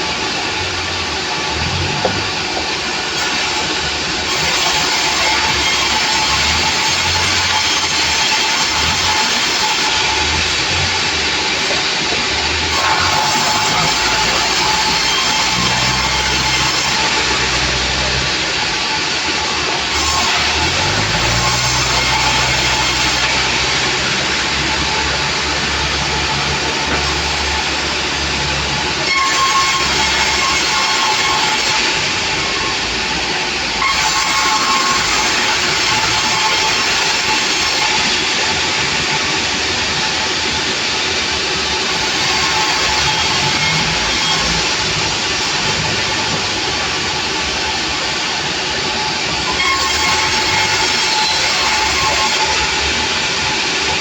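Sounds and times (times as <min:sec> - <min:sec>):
sawmill machinery rushing: 0:00.0 - 0:54.0.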